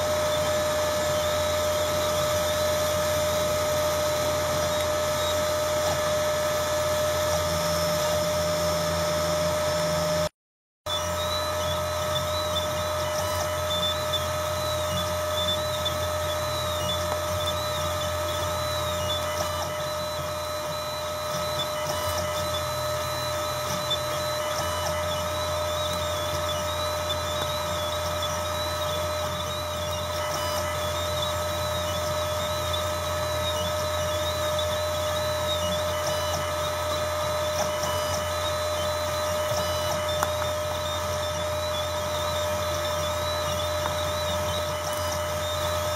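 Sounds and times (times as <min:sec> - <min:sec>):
machine motor whine and hum: 0:00.0 - 0:10.3, 0:10.9 - 0:45.9
stepper motor whir: 0:00.0 - 0:10.3, 0:10.9 - 0:45.9.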